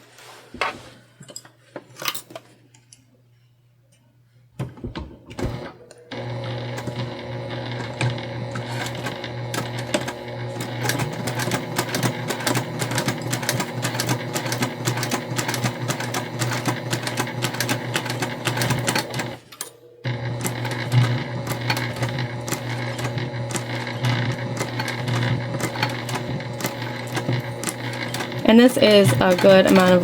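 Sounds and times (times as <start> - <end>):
sewing machine stitching: 5.3 - 30.0.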